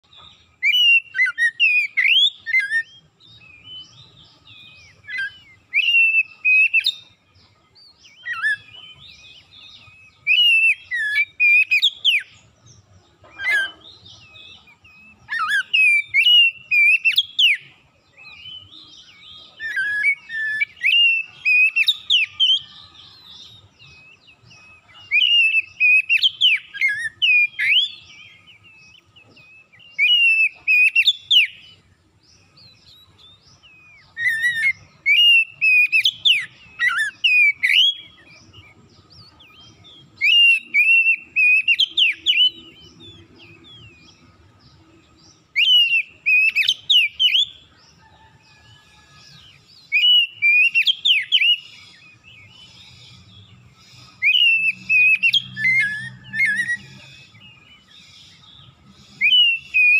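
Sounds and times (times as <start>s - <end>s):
bird singing whistled phrases: 0.0s - 7.2s, 7.8s - 12.4s, 13.3s - 44.3s, 45.4s - 47.7s, 48.6s - 53.2s, 53.8s - 59.9s.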